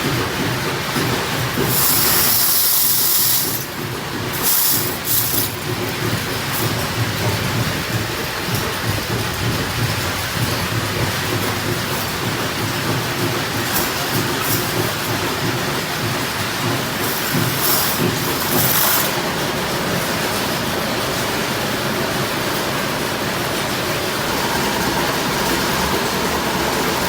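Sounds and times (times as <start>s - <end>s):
factory machinery clattering: 0.0s - 27.0s.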